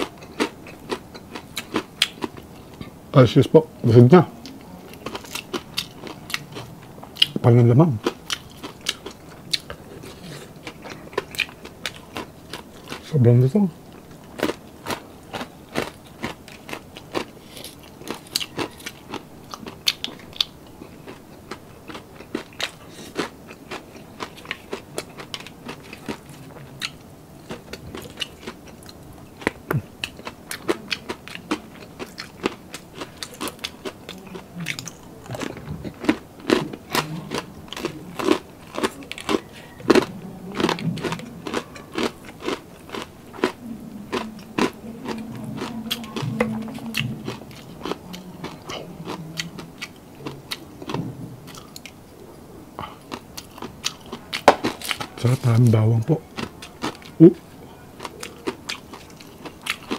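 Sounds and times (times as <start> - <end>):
crunching and chewing crispy pork: 0.0 - 2.9, 4.4 - 52.0, 52.8 - 59.9.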